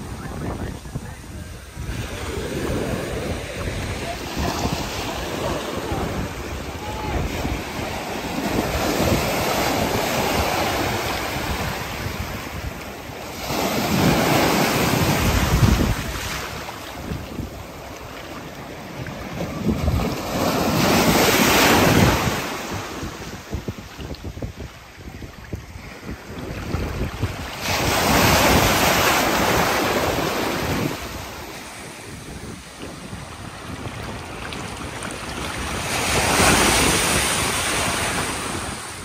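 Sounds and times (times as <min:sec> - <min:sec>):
ocean surf on beach: 0:00.0 - 0:39.0
wind buffeting microphone: 0:00.0 - 0:39.0.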